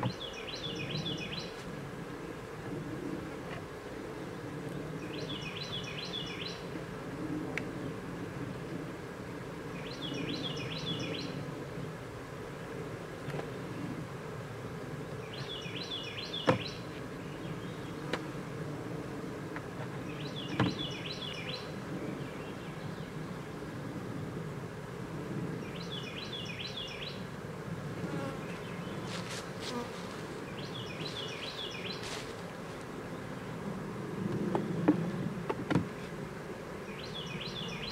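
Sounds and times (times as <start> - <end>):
honeybees buzzing: 0.0 - 37.9.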